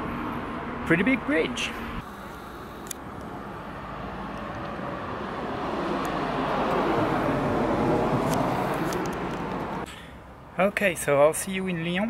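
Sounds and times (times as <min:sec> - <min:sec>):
vehicle passing by: 0:00.0 - 0:09.9.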